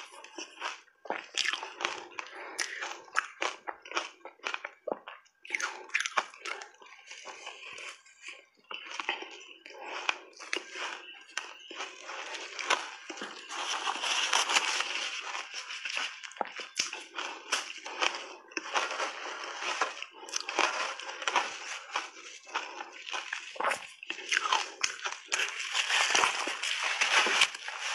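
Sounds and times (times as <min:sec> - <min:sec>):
chewing crunchy ice: 0:00.0 - 0:27.9.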